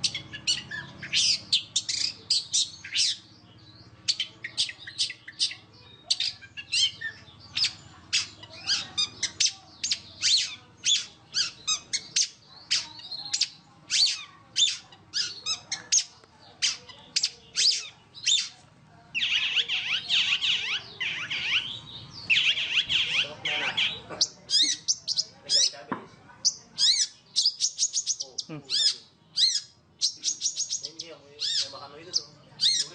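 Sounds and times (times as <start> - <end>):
shrike singing: 0.0 - 25.8, 26.4 - 32.9.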